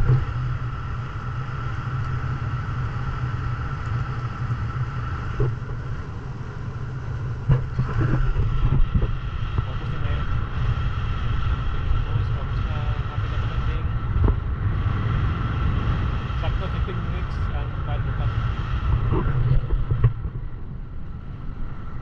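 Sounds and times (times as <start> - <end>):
motorboat engine rumbling: 0.0 - 22.0.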